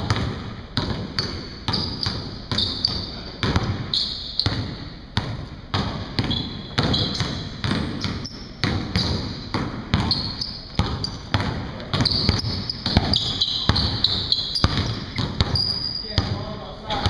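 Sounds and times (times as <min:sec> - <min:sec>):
basketballs bouncing on gym floor: 0:00.0 - 0:17.0.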